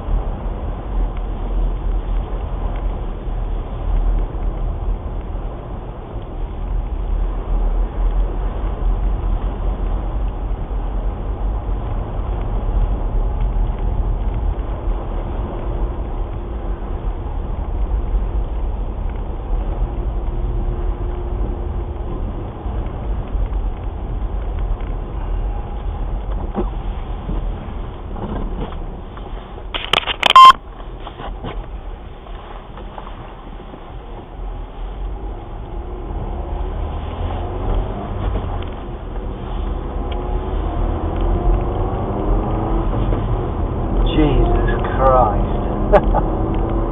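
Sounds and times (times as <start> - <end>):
car driving low rumble: 0.0 - 46.9.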